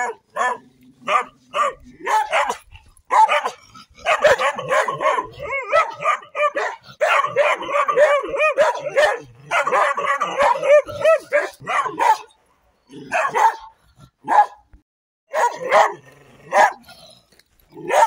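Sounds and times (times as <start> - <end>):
dogs barking fiercely: 0.0 - 14.7, 15.3 - 17.1, 17.8 - 18.0.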